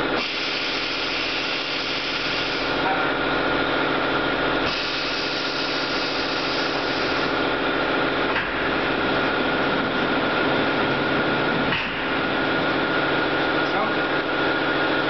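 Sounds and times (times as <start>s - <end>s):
constant high whine: 0.0s - 15.0s
machine mechanical hum: 0.0s - 15.0s.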